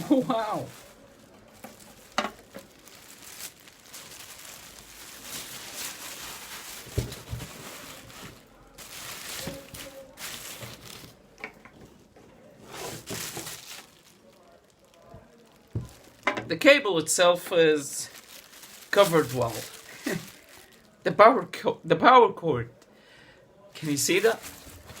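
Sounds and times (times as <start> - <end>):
packaging rustling and crinkling: 0.0 - 21.0, 23.7 - 25.0.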